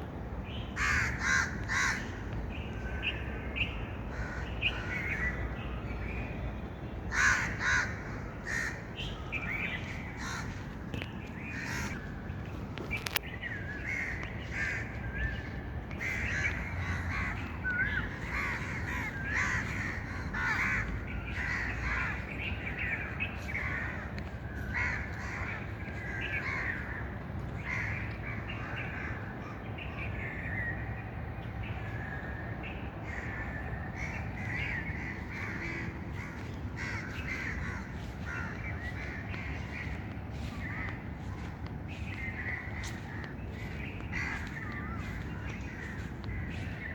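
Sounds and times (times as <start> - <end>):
birds calling and chirping: 0.1 - 46.9.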